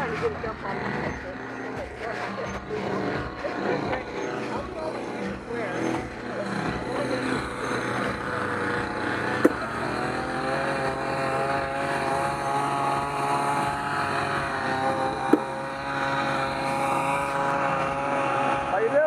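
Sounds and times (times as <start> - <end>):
chairlift mechanical hum: 0.0 - 19.0.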